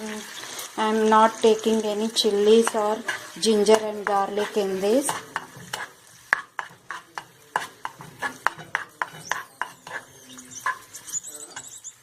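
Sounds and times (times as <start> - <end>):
spatula scraping frying pan: 1.4 - 12.0.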